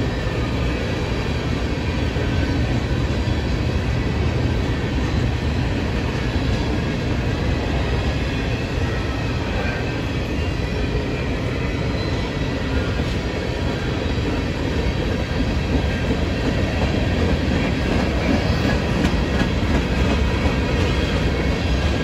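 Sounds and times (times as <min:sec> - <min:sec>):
steel wheels on rail: 0:00.0 - 0:22.0.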